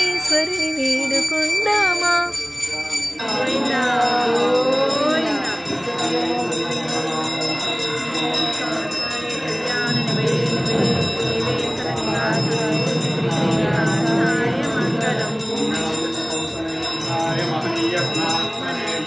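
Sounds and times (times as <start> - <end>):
hand bell jangling: 0.0 - 19.0.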